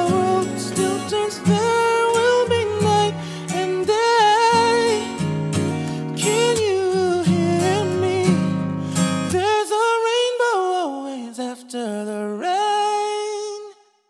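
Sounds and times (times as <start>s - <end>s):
person singing ballad: 0.0s - 13.8s
acoustic guitar: 0.0s - 14.0s.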